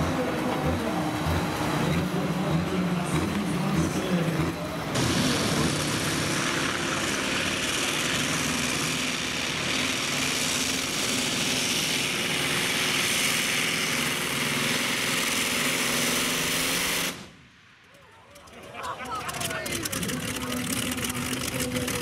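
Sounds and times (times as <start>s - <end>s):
tractor engine at high revs: 0.0s - 17.5s, 18.4s - 22.0s.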